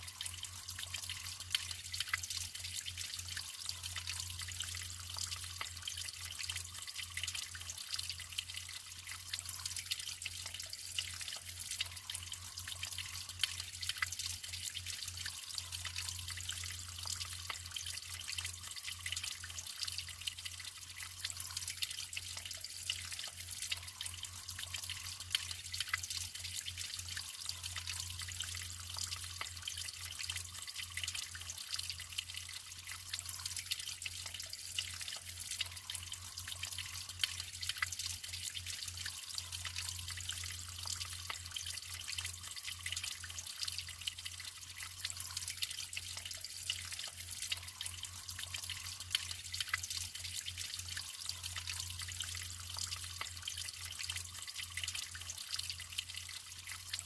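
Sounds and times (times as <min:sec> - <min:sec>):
running water trickling: 0:00.0 - 0:57.0
small drips and splashes: 0:00.0 - 0:57.0.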